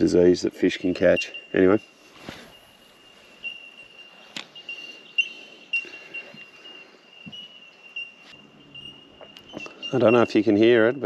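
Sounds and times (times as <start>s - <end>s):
bell-like bird calls: 0.0s - 11.0s.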